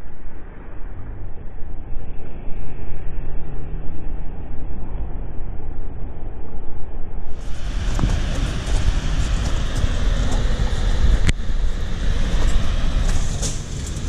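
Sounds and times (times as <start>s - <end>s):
wind buffeting microphone: 0.8s - 14.0s.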